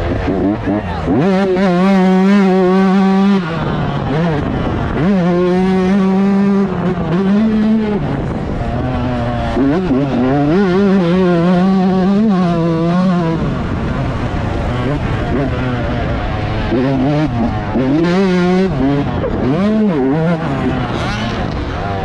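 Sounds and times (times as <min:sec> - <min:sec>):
two-stroke motocross bike revving: 0:00.0 - 0:22.0.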